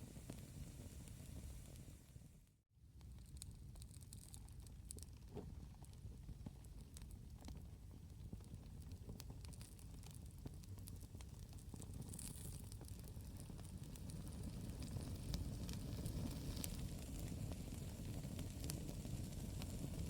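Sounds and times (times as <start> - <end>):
fire low rumble: 0.0 - 2.4, 4.4 - 20.0
campfire crackling and popping: 3.1 - 20.0.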